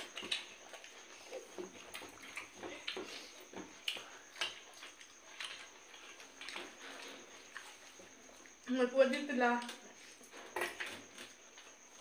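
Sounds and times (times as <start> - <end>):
people chewing and lip-smacking: 0.0 - 8.7, 9.6 - 12.0.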